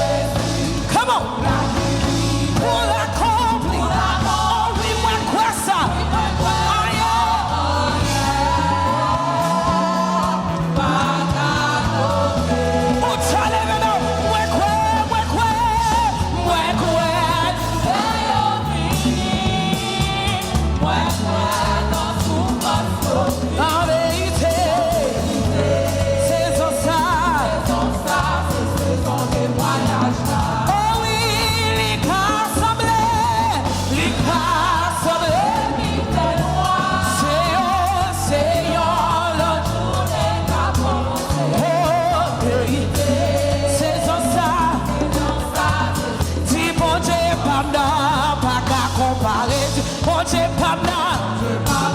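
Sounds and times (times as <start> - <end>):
band with bass and drums: 0.0 - 51.9
singing voices: 0.0 - 51.9.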